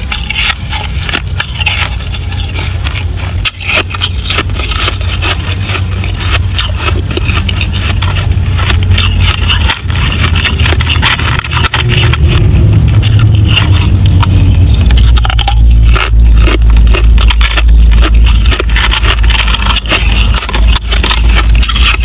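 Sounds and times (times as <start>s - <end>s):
crushed ice crackling and scraping: 0.0s - 22.0s
low rumble: 0.0s - 22.0s.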